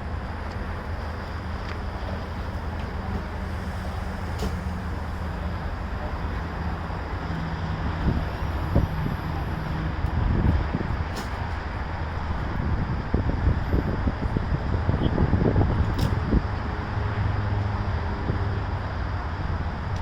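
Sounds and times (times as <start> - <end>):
street traffic: 0.0 - 20.0
vehicle engine idling: 0.0 - 20.0.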